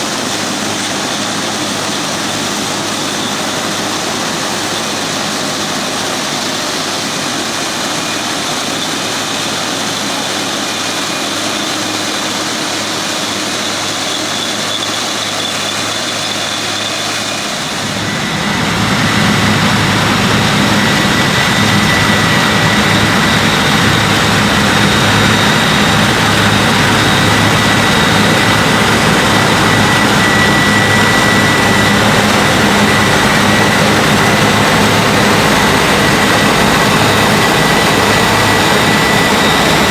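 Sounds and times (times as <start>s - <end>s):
combine harvester running: 0.0s - 39.9s
steady high whine: 0.0s - 39.9s.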